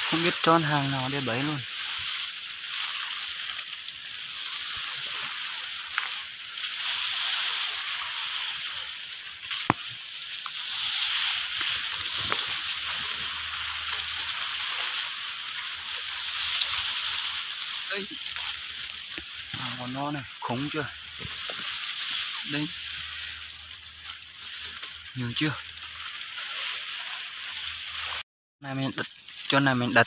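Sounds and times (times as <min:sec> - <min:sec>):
grass brushing against phone: 0:00.0 - 0:28.2
steady high hiss: 0:00.0 - 0:30.0.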